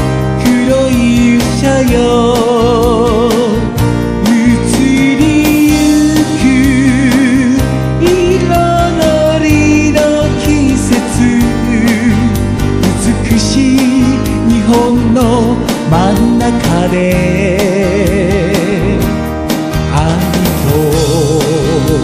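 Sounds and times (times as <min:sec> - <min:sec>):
song with sung melody and beat: 0:00.0 - 0:22.0.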